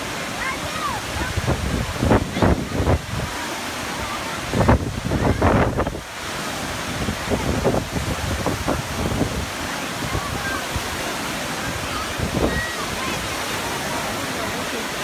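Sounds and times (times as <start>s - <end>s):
waterfalls cascading into pool: 0.0s - 15.0s
wind buffeting microphone: 0.8s - 15.0s.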